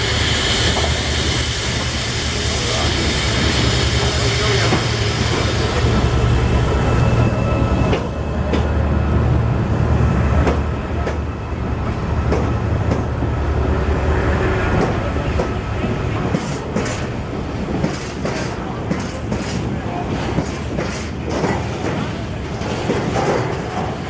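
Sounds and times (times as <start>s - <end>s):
train rolling past: 0.0s - 24.0s.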